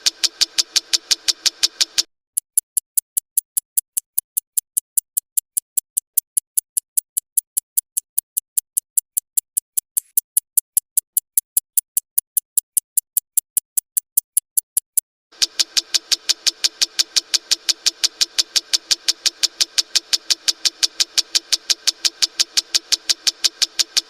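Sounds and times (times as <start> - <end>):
clock ticking: 0.0 - 24.0.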